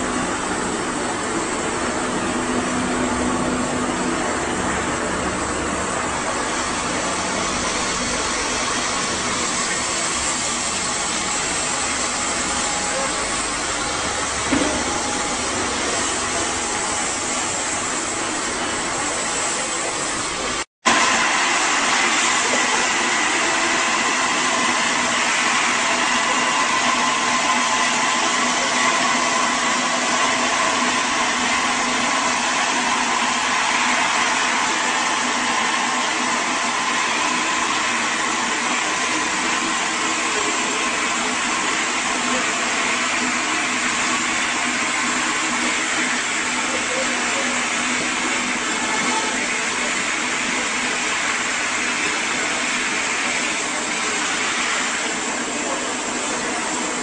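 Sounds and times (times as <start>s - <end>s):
constant motor whine: 0.0s - 57.0s.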